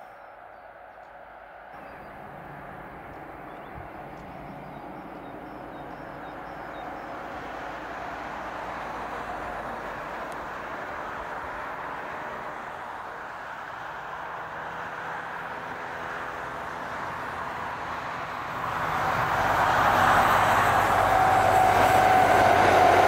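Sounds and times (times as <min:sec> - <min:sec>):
diesel train rumbling: 0:00.0 - 0:23.0.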